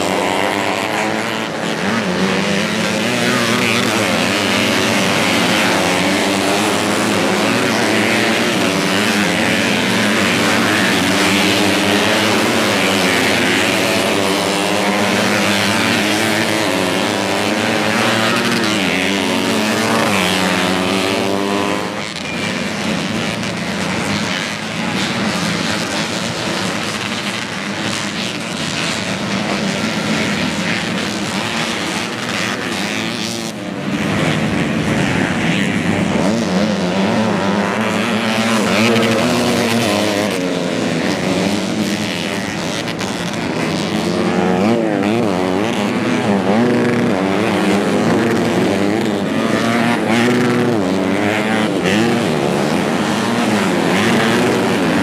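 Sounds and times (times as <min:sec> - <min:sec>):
motorcycle engines revving hard: 0:00.0 - 0:55.0.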